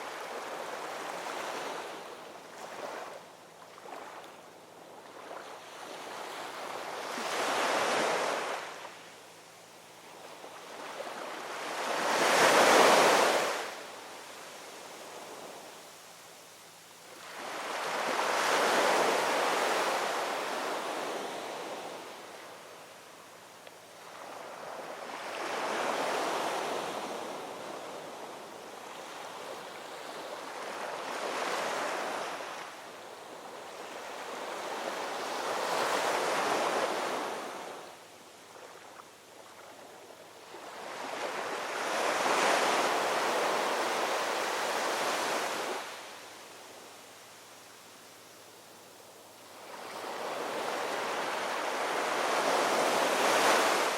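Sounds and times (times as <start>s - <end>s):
ocean waves breaking on shore: 0.0s - 9.1s, 10.1s - 14.0s, 17.1s - 22.9s, 23.9s - 46.9s, 49.5s - 53.9s.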